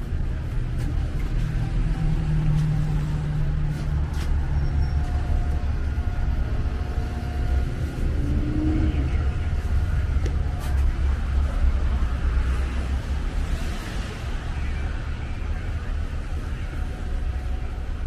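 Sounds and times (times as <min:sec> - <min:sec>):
cars rumbling past: 0:00.0 - 0:18.0.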